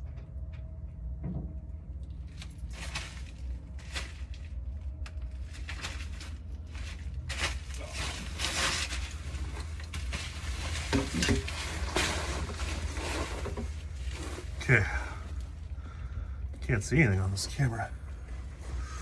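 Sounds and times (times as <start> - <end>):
steady low rumble: 0.0 - 19.0
rustling and scraping: 2.0 - 16.7, 18.0 - 19.0.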